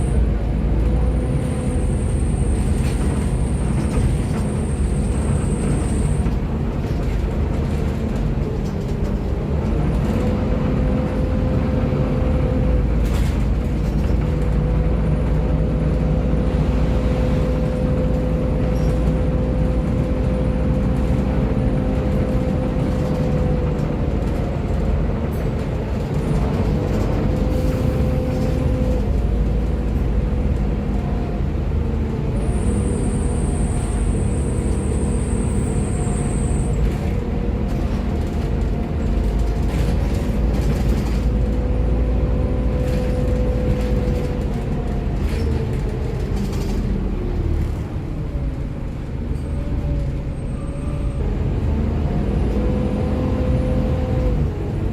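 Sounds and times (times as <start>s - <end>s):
bus diesel engine running: 0.0s - 54.9s.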